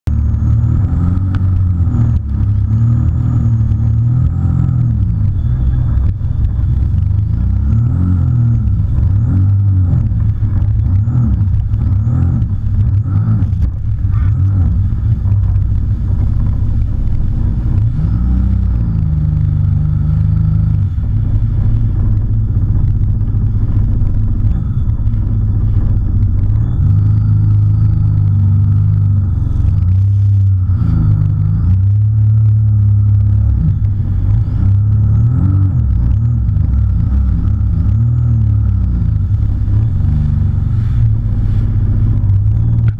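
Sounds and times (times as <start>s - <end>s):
personal watercraft engine: 0.1s - 42.9s.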